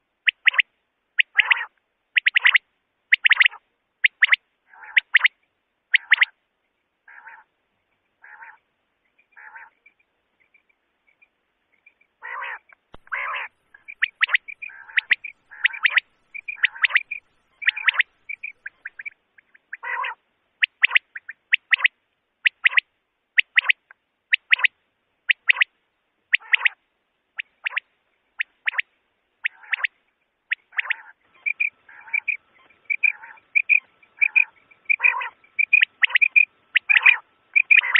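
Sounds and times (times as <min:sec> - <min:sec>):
quail whistled calls: 0:00.2 - 0:06.4, 0:07.1 - 0:07.5, 0:08.2 - 0:08.6, 0:09.3 - 0:10.7, 0:11.8 - 0:25.7, 0:26.3 - 0:26.8, 0:27.4 - 0:37.9.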